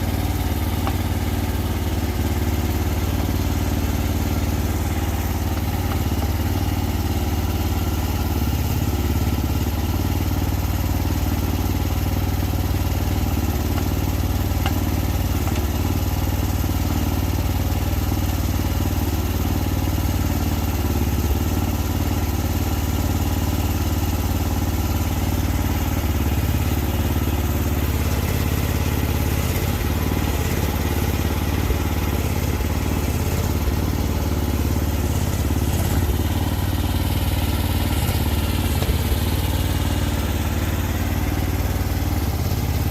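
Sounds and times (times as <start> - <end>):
small diesel engine running: 0.0 - 42.9.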